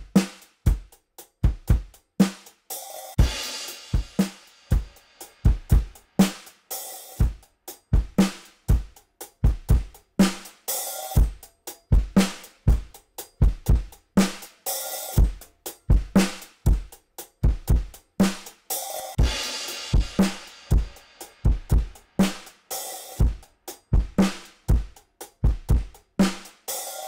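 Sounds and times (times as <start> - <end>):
drum kit groove: 0.0 - 27.0.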